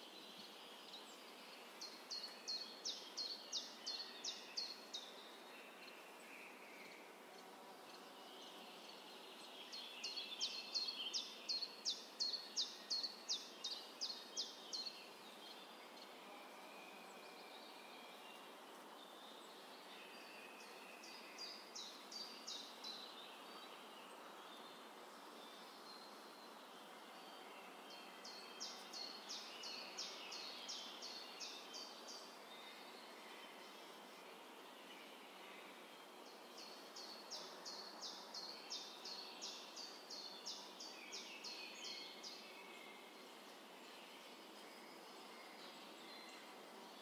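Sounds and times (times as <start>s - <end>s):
faint outdoor hiss: 0.0s - 47.0s.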